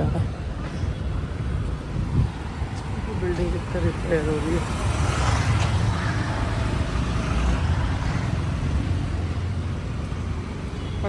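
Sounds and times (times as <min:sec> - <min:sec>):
city street rumble: 0:00.0 - 0:11.0
traffic going by: 0:00.0 - 0:11.0.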